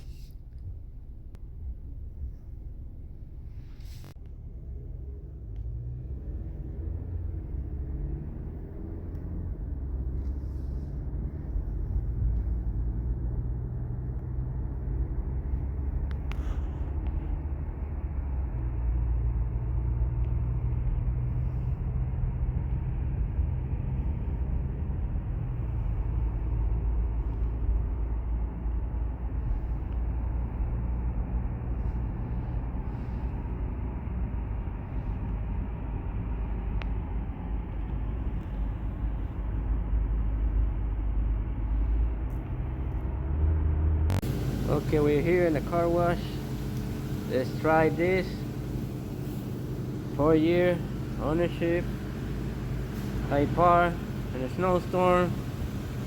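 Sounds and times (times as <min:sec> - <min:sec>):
car engine rumbling: 0:00.0 - 0:56.0
road noise: 0:00.0 - 0:56.0.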